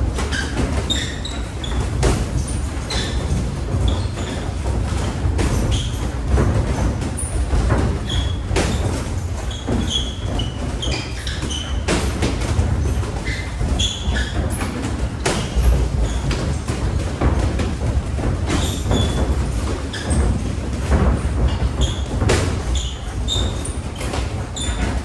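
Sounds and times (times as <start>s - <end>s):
shoes squeaking on court floor: 0.2s - 17.4s, 18.4s - 25.0s.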